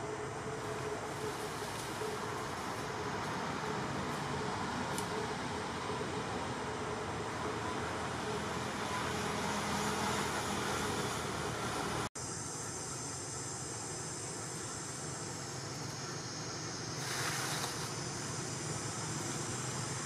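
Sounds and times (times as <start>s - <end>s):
insects droning: 0.0s - 20.0s
outdoor background hiss: 0.0s - 20.0s.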